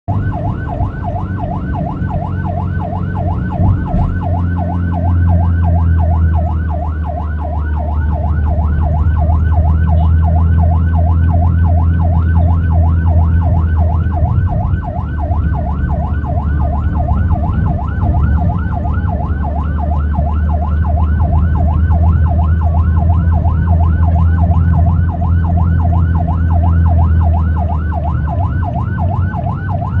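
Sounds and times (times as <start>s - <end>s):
engine and road rumble: 0.0s - 30.0s
ambulance siren yelping: 0.1s - 30.0s.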